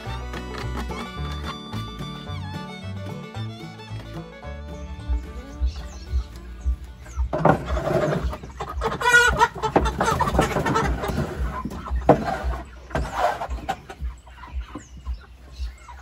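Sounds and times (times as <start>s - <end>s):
chickens squawking and clucking: 0.0s - 16.0s.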